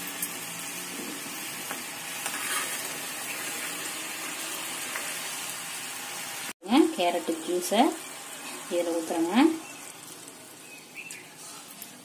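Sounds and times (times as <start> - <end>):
sugar syrup boiling: 0.0 - 12.0.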